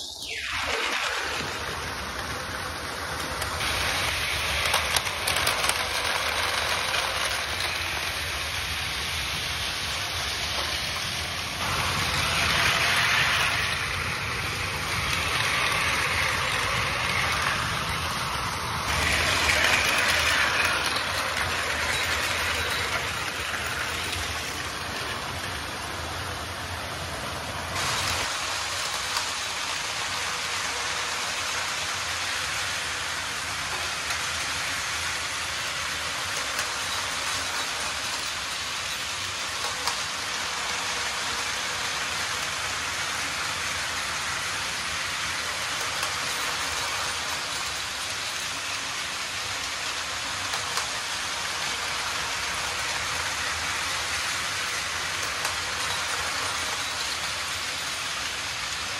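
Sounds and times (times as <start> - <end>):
toy train motors whirring: 0.0 - 58.9
plastic wheels rattling on rails: 0.6 - 26.2, 27.7 - 58.9.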